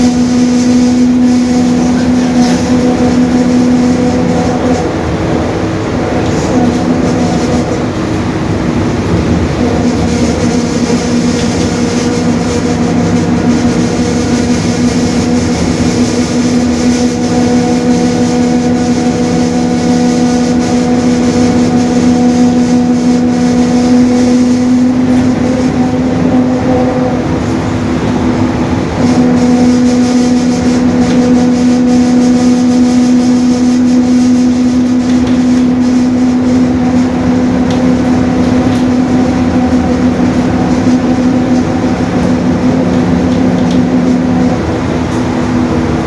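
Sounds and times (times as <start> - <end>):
diesel bus engine running: 0.0 - 46.0
differential drone: 0.0 - 46.0
road rumble: 0.0 - 46.0.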